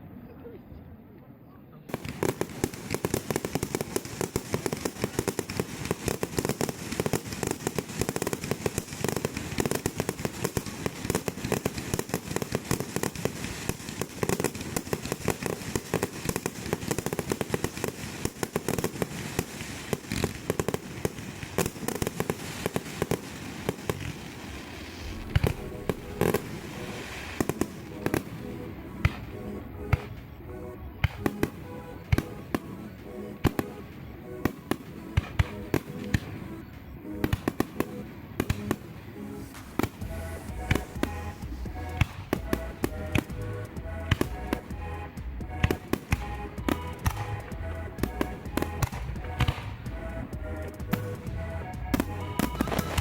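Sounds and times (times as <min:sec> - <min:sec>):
background music: 0:01.9 - 0:53.0
fireworks bangs and crackles: 0:01.9 - 0:53.0.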